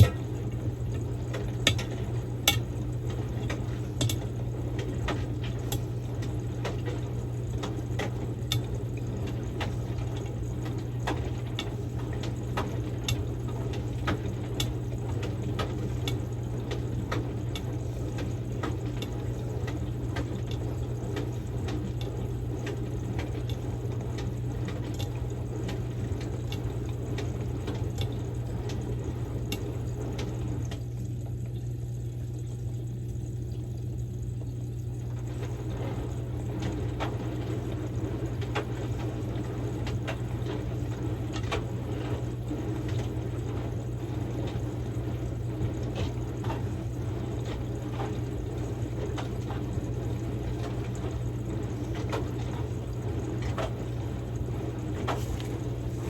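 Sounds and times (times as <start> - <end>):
washing machine low hum: 0.0 - 56.0
water sloshing in washing machine: 0.0 - 56.0.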